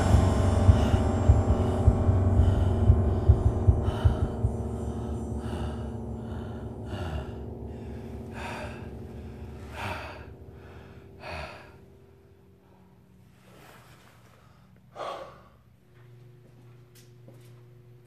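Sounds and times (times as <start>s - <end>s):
man breathing heavily: 0.0s - 15.9s
low droning film score: 0.0s - 18.0s.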